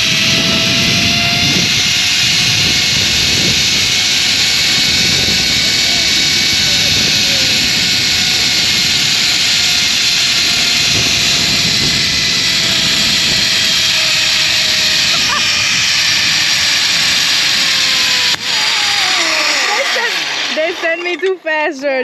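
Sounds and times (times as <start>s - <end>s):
zipline pulleys rushing hiss: 0.0s - 21.3s.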